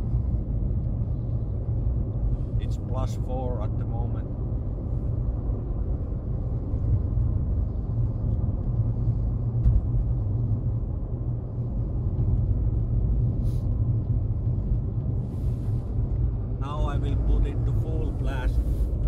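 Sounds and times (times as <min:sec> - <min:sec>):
diesel engine rumble: 0:00.0 - 0:19.0
road noise: 0:00.0 - 0:19.0.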